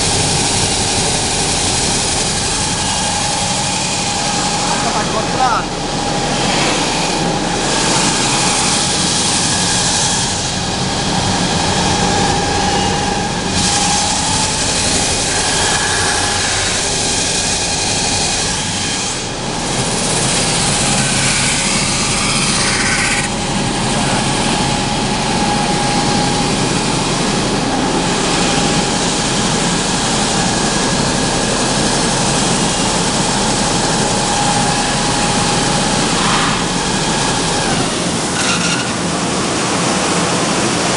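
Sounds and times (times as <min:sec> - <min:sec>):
sanding machine rushing noise: 0:00.0 - 0:40.9
steady machine hum: 0:00.0 - 0:40.9.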